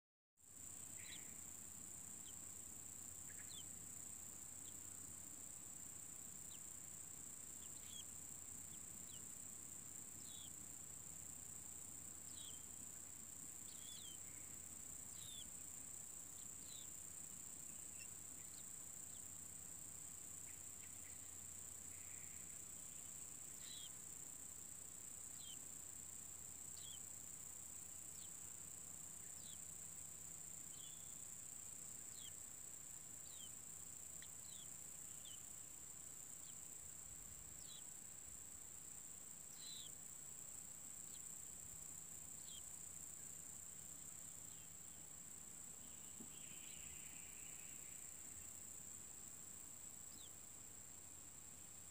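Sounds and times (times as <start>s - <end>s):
insects droning: 0.4s - 51.9s
faint bird chirps: 0.7s - 24.6s, 25.2s - 36.7s, 37.4s - 37.9s, 39.4s - 40.0s, 42.2s - 43.3s, 44.0s - 45.1s, 45.7s - 48.7s, 50.0s - 50.4s.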